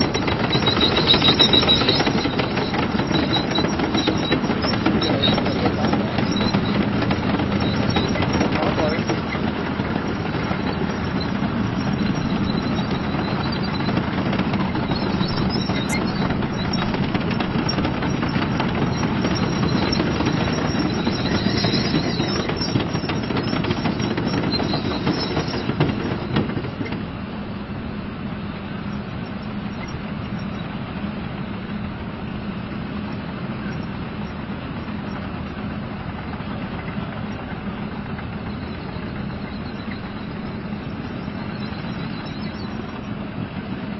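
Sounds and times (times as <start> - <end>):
steel tracks clattering: 0.0 - 43.9
tank diesel engine running: 0.0 - 43.9.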